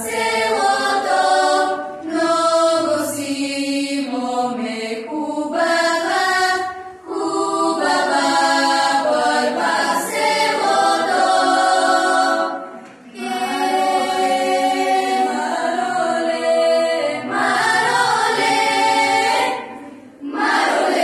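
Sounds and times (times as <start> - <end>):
girls' choir singing a cappella: 0.0 - 21.0.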